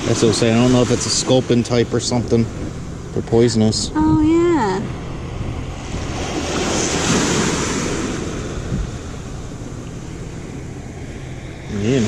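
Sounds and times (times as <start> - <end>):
wave washing onto shore: 0.0 - 3.0, 5.0 - 12.0
wind buffeting microphone: 0.0 - 12.0.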